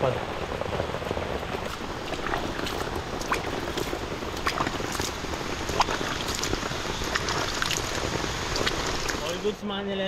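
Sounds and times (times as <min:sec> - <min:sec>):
heavy rain: 0:00.0 - 0:10.0
water splashing over feet: 0:01.1 - 0:09.6.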